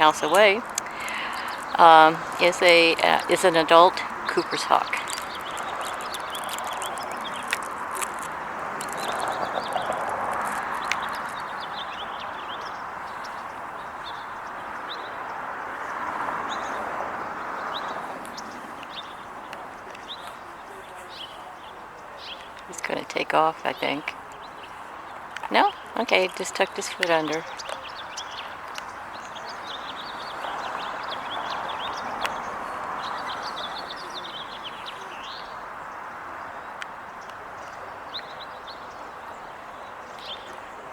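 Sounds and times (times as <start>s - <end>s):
outdoor background rush: 0.0s - 40.9s
small birds chirping: 0.0s - 40.9s.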